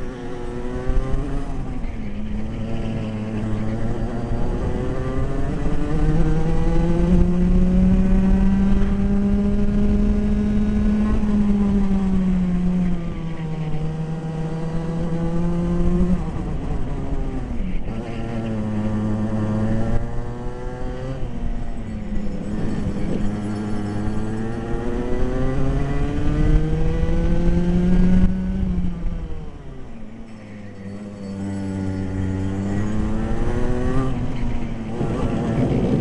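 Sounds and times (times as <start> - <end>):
wind noise: 0.0 - 29.8, 31.6 - 36.0
kart engine revving: 0.0 - 36.0.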